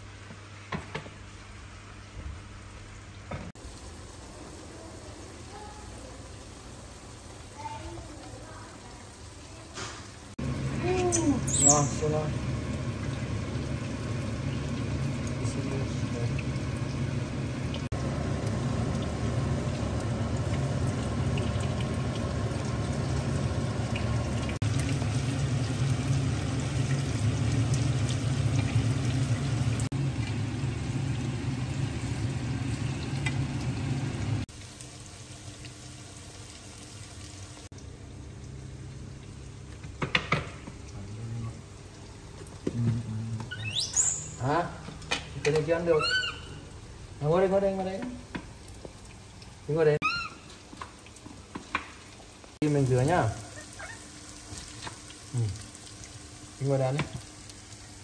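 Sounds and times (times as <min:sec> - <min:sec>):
tofu sizzling in oil: 0:03.6 - 0:40.9, 0:43.5 - 0:58.0.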